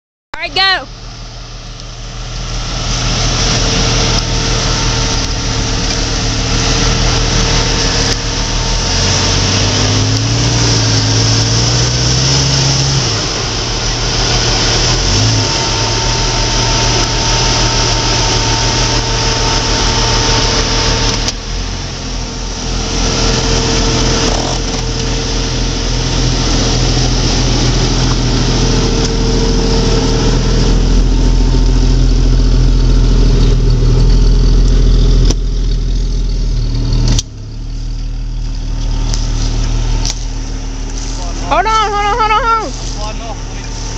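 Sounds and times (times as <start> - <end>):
car engine running at low revs: 0.4 - 43.9.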